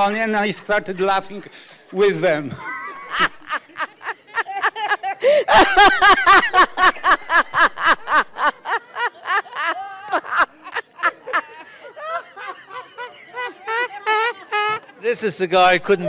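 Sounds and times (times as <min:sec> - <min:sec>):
man laughing hard: 0:00.9 - 0:14.8.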